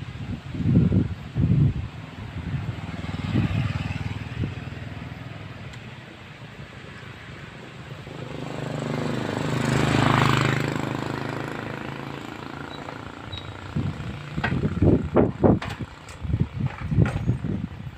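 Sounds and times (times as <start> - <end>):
vehicle passing by: 0.7 - 17.0.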